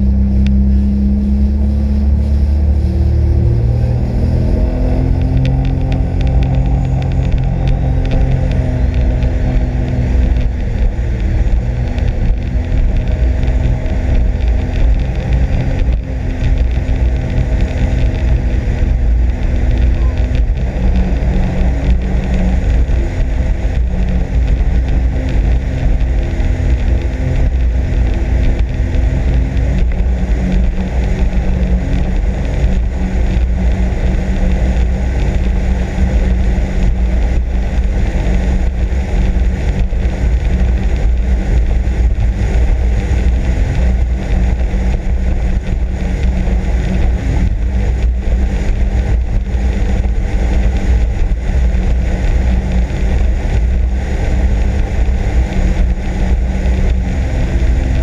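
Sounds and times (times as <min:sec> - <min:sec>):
watercraft engine drone: 0:00.0 - 0:58.0
wind and water rushing: 0:00.0 - 0:58.0.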